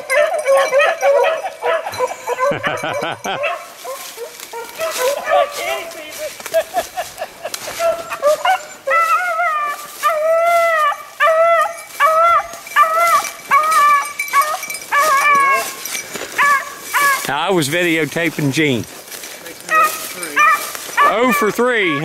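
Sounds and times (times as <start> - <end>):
hounds baying: 0.0 - 22.0.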